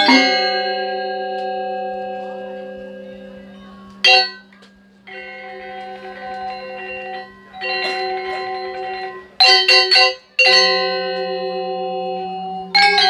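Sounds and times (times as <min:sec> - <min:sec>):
gamelan metallophones ringing: 0:00.0 - 0:13.0.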